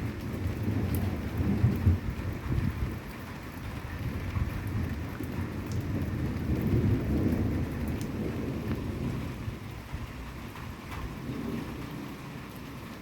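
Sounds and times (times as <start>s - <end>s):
rolling thunder rumble: 0.0s - 3.2s, 3.8s - 13.0s.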